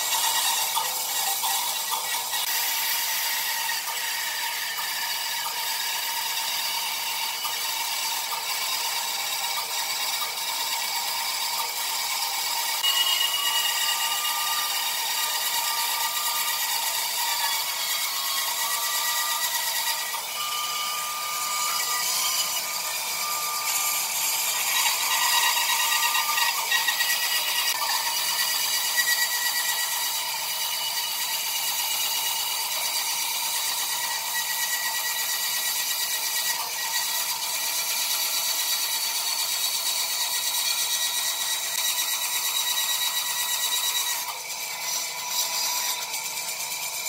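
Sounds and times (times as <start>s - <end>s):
band saw cutting wood: 0.0s - 47.0s.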